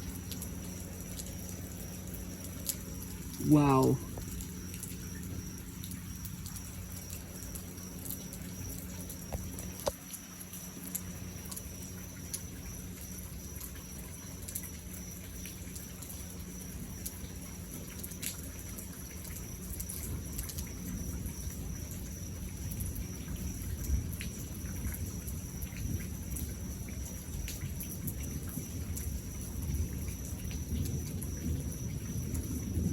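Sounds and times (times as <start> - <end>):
low rumble of thunder: 0.0 - 9.8, 11.0 - 32.9
rain falling: 0.0 - 32.9
raindrops ticking: 0.0 - 32.9.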